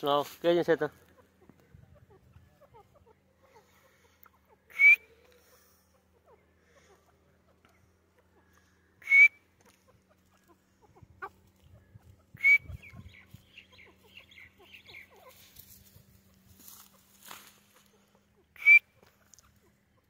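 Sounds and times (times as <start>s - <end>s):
francolin sharp calls: 1.1s - 19.9s.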